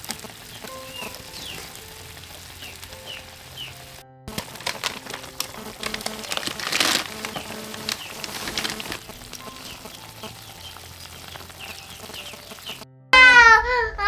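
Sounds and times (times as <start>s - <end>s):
dense crackling and sizzling: 0.0s - 12.9s.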